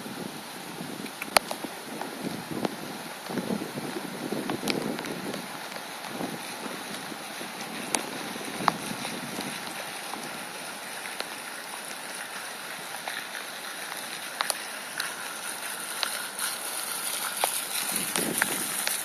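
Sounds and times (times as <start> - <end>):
rain hissing: 0.0 - 19.0.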